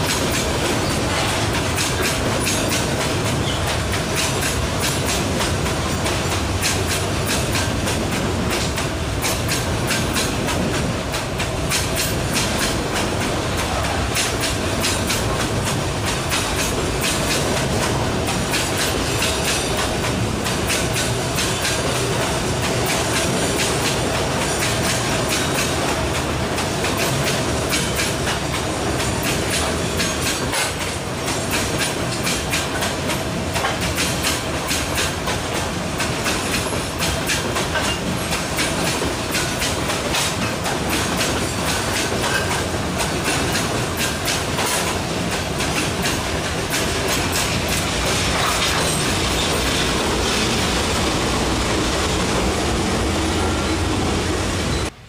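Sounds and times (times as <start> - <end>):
freight wagon wheels clicking on rails: 0.0 - 51.0.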